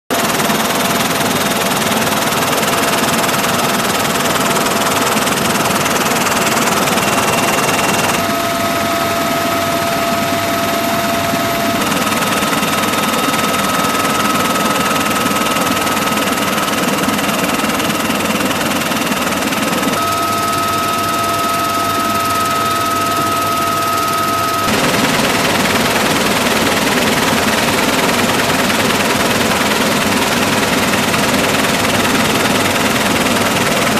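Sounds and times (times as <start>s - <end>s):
helicopter rotor and engine noise: 0.1s - 33.9s
high turbine whine: 0.2s - 33.9s.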